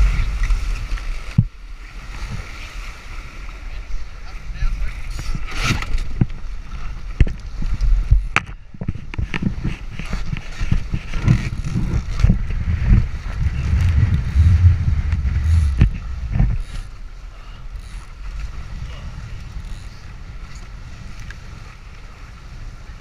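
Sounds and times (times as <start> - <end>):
water rushing past hulls: 0.0 - 23.0
wind buffeting microphone: 4.6 - 23.0.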